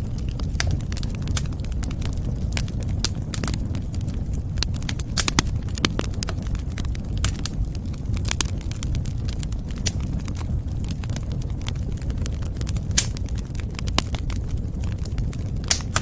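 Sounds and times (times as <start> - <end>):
fire pops and snaps: 0.0 - 16.0
low rumble of burning: 0.0 - 16.0.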